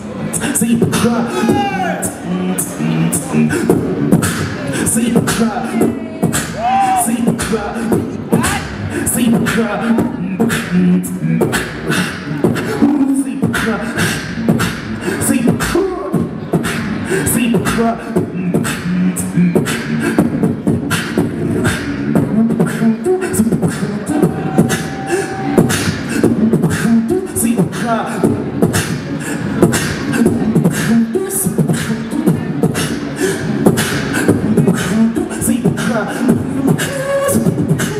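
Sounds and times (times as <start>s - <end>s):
beatboxing through a microphone: 0.0s - 37.9s.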